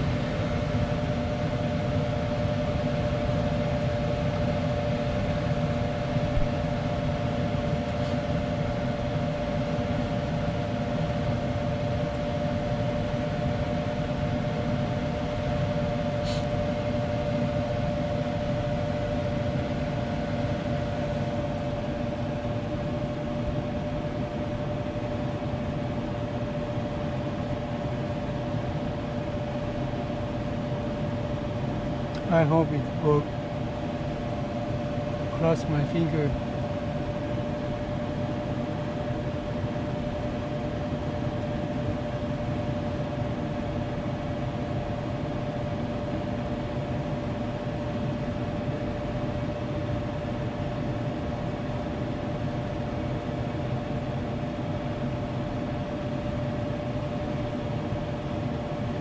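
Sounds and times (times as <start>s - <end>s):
furnace blower fan humming: 0.0s - 59.0s.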